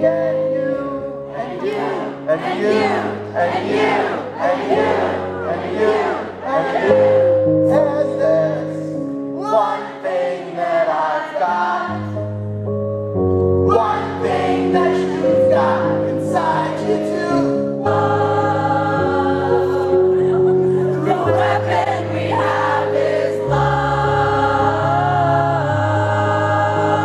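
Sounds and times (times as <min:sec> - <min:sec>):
keyboard chords: 0:00.0 - 0:27.0
crowd singing along: 0:00.1 - 0:12.2, 0:13.7 - 0:27.0.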